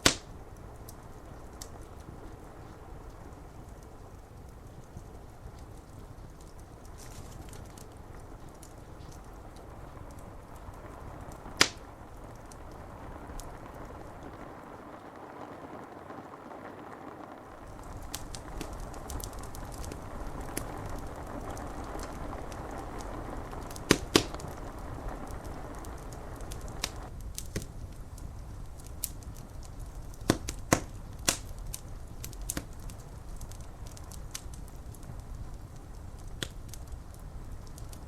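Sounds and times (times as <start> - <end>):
rain hiss: 0.0 - 38.0
wood fire crackling and popping: 0.0 - 38.0.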